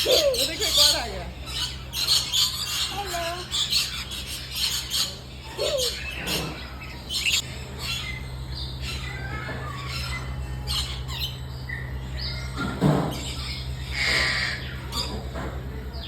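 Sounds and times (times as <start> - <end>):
parrots squawking: 0.0 - 15.2
steady low hum: 0.0 - 16.0.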